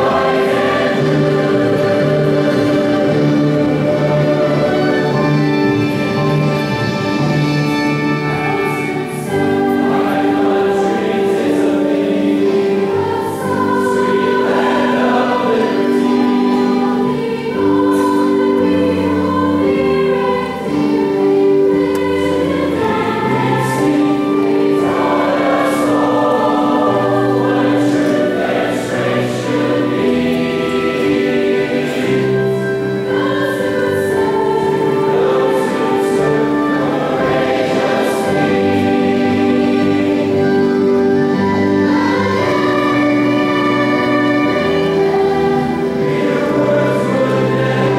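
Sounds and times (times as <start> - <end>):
choir singing: 0.0 - 47.9
orchestral accompaniment: 0.0 - 47.9.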